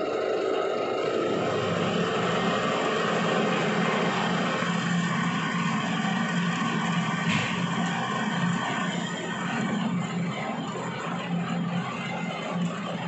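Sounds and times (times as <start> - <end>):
lathe machine hum: 0.0 - 13.0.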